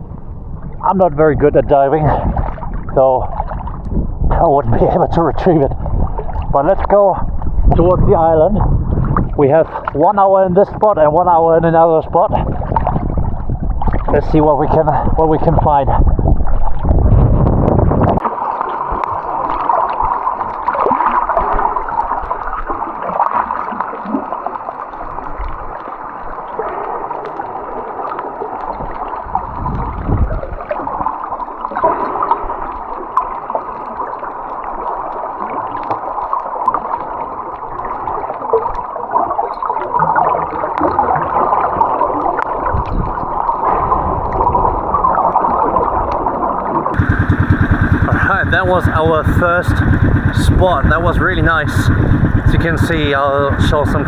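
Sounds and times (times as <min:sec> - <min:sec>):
underwater water bubbling: 0:02.1 - 0:10.0, 0:12.4 - 0:14.2, 0:16.0 - 0:54.0.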